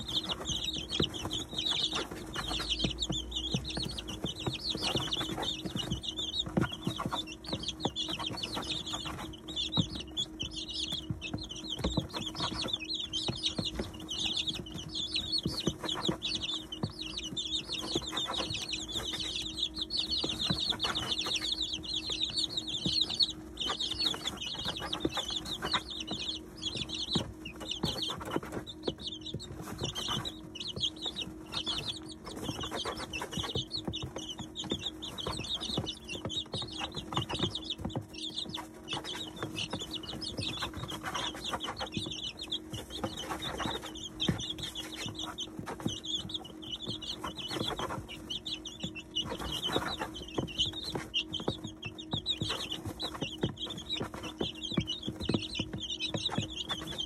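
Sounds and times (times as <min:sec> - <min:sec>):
beaks pecking at grain: 0:00.0 - 0:57.0
chicks peeping: 0:00.0 - 0:57.0.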